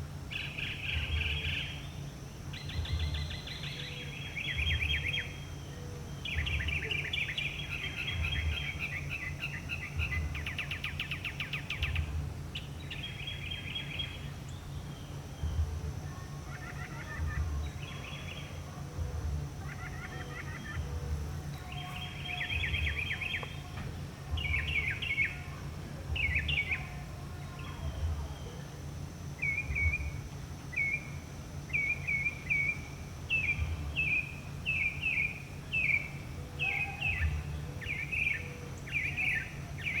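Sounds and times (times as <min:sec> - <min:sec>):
mockingbird singing varied phrases: 0:00.3 - 0:19.0, 0:19.6 - 0:40.0.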